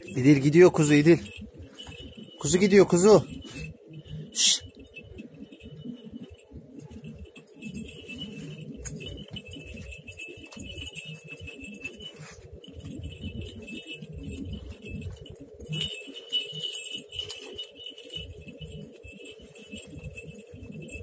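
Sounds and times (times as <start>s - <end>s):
small bells jingling: 0.0s - 21.0s.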